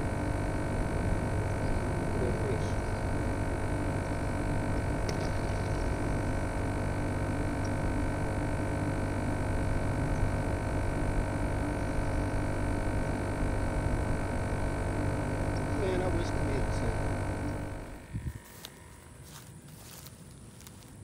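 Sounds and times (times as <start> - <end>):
steady tonal hum: 0.0 - 21.0.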